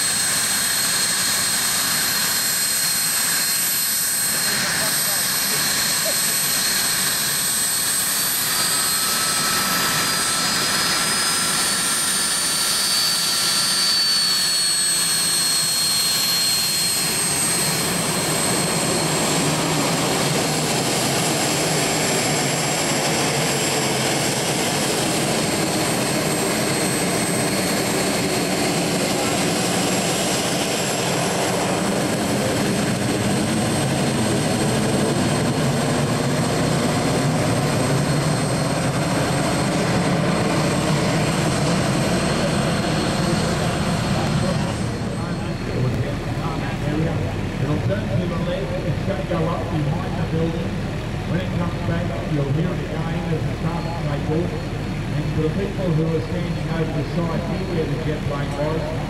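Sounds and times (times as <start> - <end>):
jet engine turbine whine: 0.0 - 59.0
jet exhaust rumble: 0.0 - 59.0.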